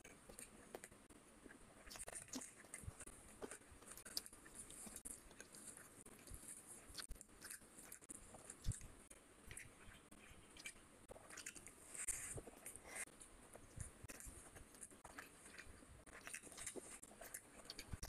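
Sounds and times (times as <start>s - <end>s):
wet chewing and mouth smacks: 0.0s - 18.0s.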